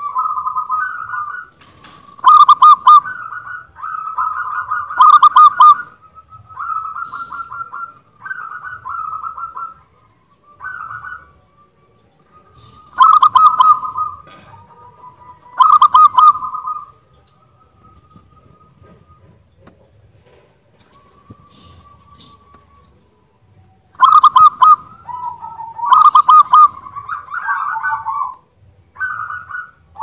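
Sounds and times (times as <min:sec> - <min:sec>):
dove cooing: 0:00.0 - 0:11.4, 0:12.2 - 0:30.0.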